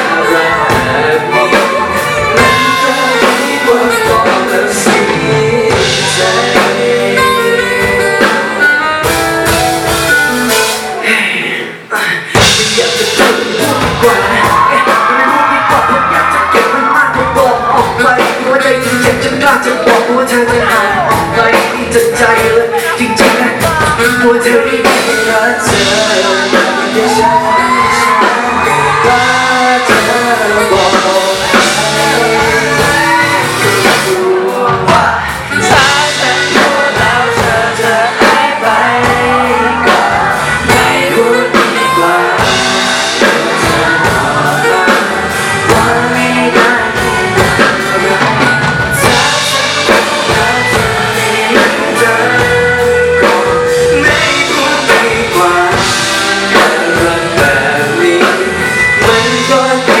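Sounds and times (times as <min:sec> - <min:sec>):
live band playing pop: 0:00.0 - 1:00.0
person singing: 0:00.0 - 1:00.0.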